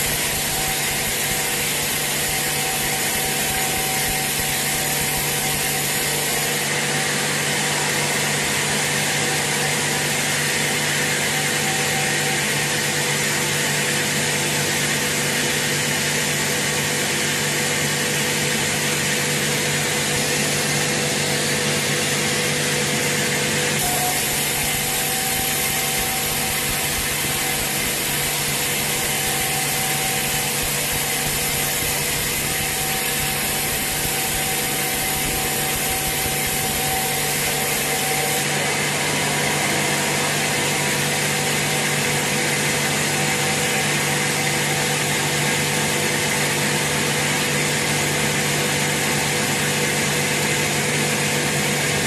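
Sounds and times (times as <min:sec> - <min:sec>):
saw cutting through log: 0:00.0 - 0:52.0
sawmill machine hum: 0:00.0 - 0:52.0.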